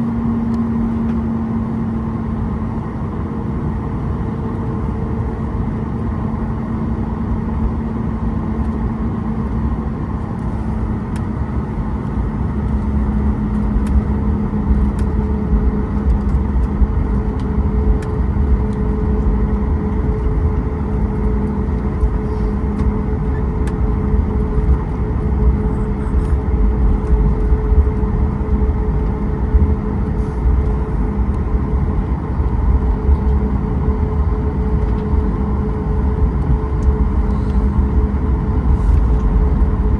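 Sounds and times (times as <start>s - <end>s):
jet engine hum in cabin: 0.0s - 39.9s.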